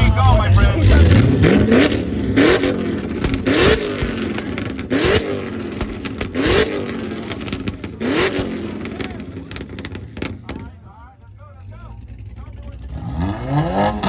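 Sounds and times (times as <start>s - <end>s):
car engine revving: 0.0s - 14.0s
exhaust popping and crackling: 0.0s - 14.0s.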